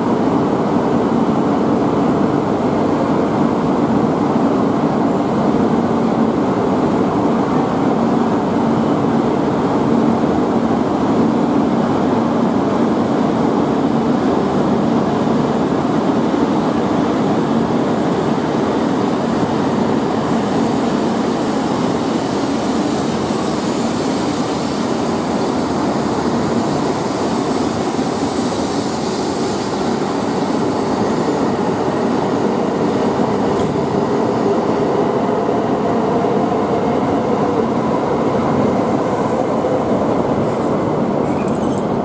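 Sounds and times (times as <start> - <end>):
train rushing past: 0.0 - 42.0.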